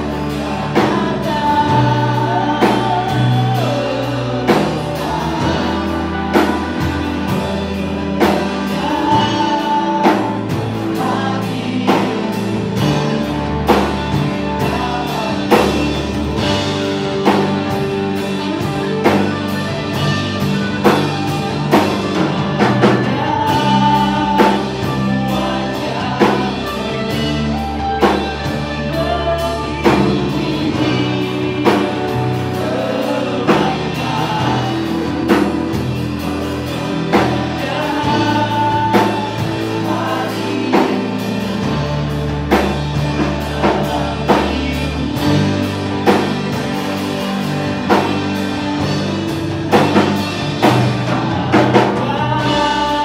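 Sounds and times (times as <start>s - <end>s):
full band playing: 0.0s - 53.0s
singers singing worship song: 0.0s - 53.0s.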